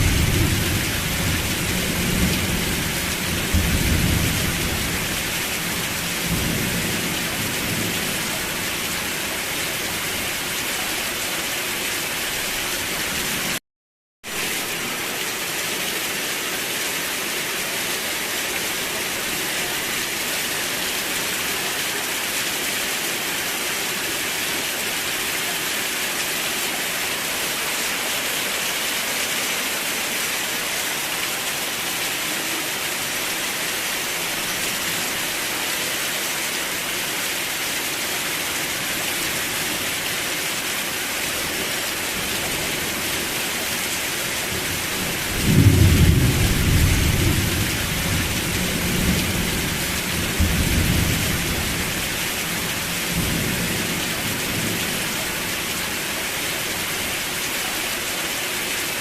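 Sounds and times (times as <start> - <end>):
steady rain falling: 0.0 - 13.6, 14.2 - 59.0.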